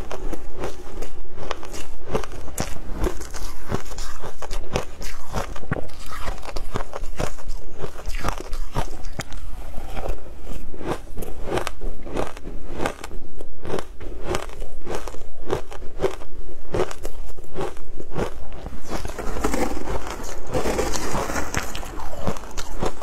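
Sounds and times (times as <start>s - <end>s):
ice being chewed: 0.0s - 23.0s.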